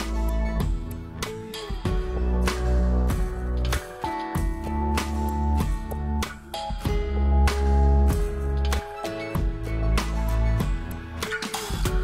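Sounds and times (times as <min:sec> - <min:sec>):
song with bass and drum beat: 0:00.0 - 0:12.0.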